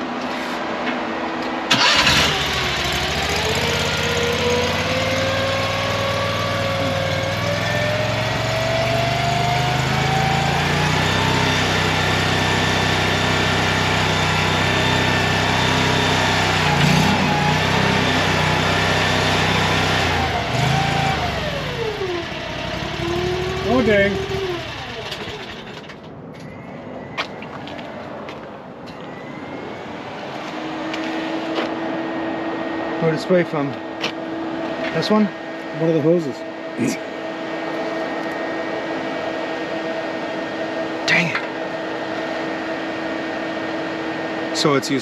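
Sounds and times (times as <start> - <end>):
hydraulic whine: 1.0 - 26.5, 28.9 - 45.0
skid steer engine running: 1.1 - 26.1, 29.6 - 45.0.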